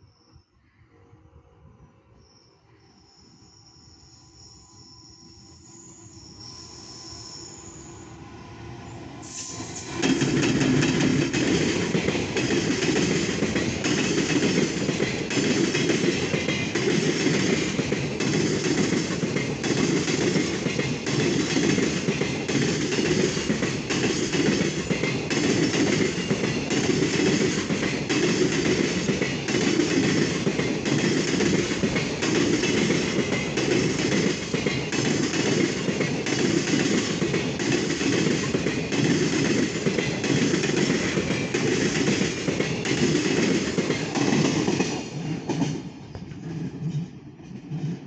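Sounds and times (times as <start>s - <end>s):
train wheels rumbling on rail: 5.5s - 48.0s
clickety-clack over rail joints: 9.3s - 48.0s.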